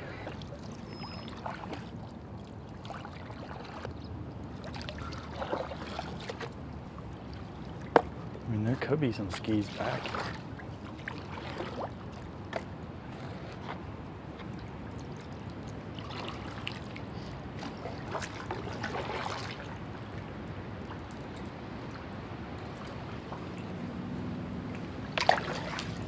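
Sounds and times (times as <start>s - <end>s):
steady low water rush: 0.0s - 26.0s
water splashing around kayak: 0.0s - 26.0s.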